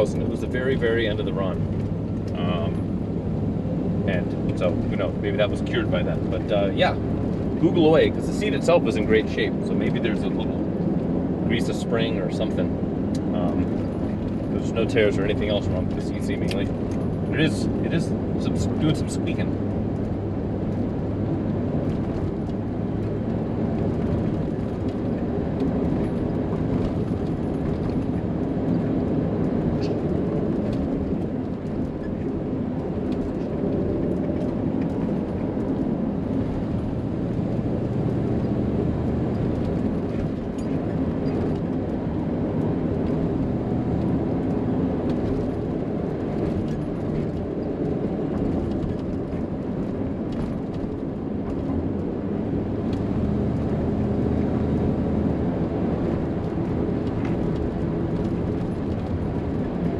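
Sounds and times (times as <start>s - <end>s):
pickup cab engine and road noise: 0.0s - 59.9s.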